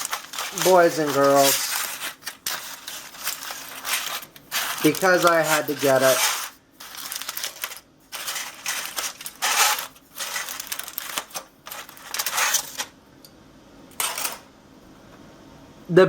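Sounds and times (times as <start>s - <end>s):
food packaging crinkling: 0.0s - 12.9s.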